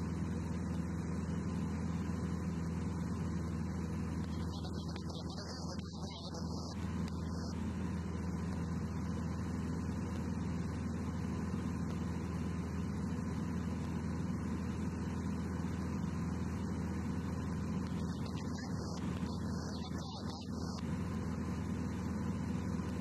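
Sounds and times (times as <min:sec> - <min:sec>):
light aircraft engine humming: 0:00.0 - 0:23.0.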